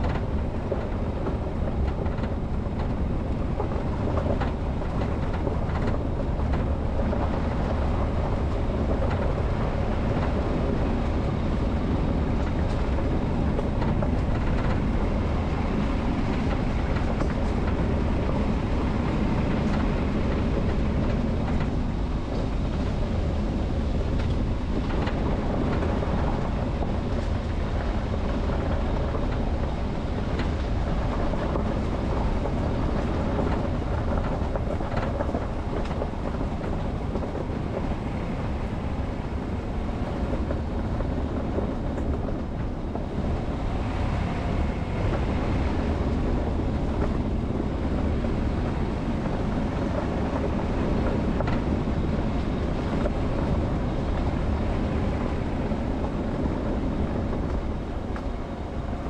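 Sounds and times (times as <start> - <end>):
faint clicks and rattles: 0.0 - 59.0
vehicle driving rumble: 0.0 - 59.0.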